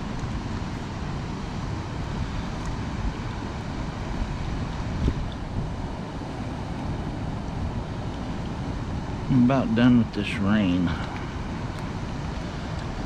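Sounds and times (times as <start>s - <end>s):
spillway water rushing: 0.0s - 13.0s
wind buffeting microphone: 0.0s - 13.0s.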